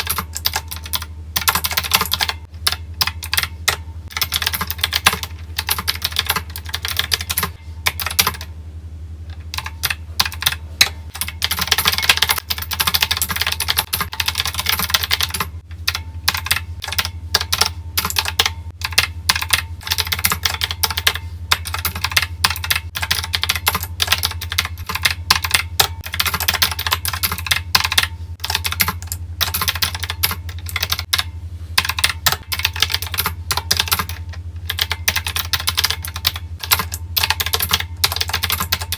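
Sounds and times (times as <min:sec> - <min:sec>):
fast typing on keyboard: 0:00.0 - 0:08.5, 0:09.6 - 0:38.9
steady low hum: 0:00.0 - 0:38.9.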